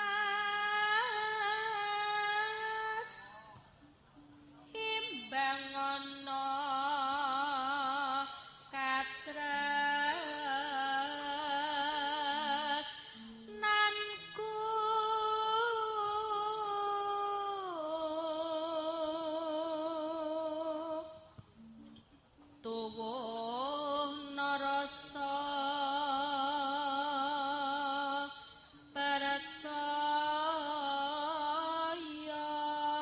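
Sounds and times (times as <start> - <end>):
woman singing unaccompanied: 0.0 - 33.0.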